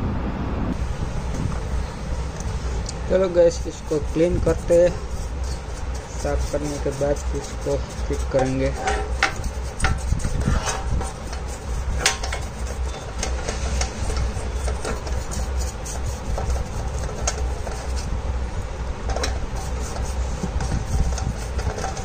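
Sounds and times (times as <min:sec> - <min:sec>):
low hum: 0:00.0 - 0:22.0
stiff brush scrubbing metal: 0:00.8 - 0:18.2, 0:19.0 - 0:22.0.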